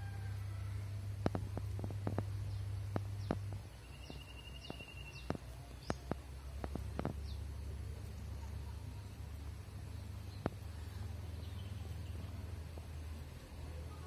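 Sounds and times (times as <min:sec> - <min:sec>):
steady low hum: 0:00.0 - 0:14.0
small birds chirping: 0:01.2 - 0:14.0.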